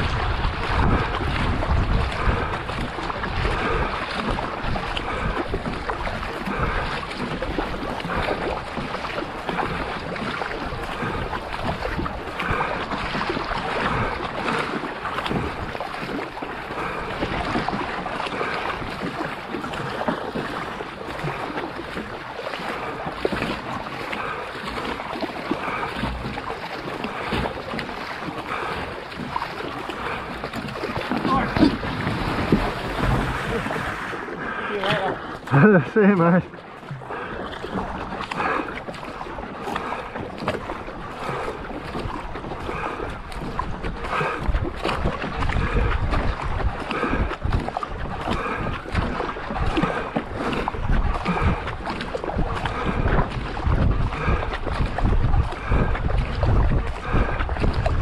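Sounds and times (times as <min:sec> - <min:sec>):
paddling: 0:00.0 - 0:58.0
water rushing along canoe hull: 0:00.0 - 0:58.0
wind buffeting microphone: 0:00.0 - 0:58.0.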